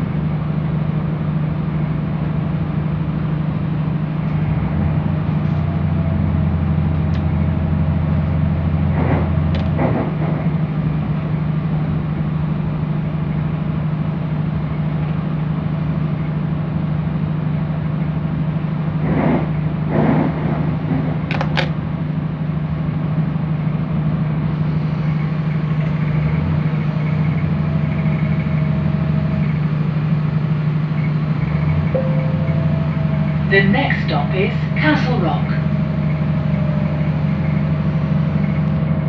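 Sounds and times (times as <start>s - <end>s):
train engine hum: 0.0s - 39.0s
wheels rumbling on track: 0.0s - 39.0s.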